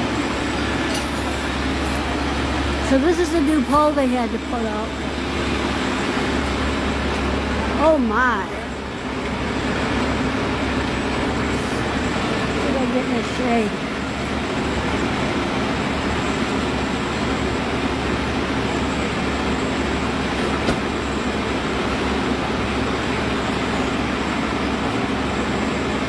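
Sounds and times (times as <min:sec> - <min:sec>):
heavy vehicle engines rumbling: 0:00.0 - 0:26.0.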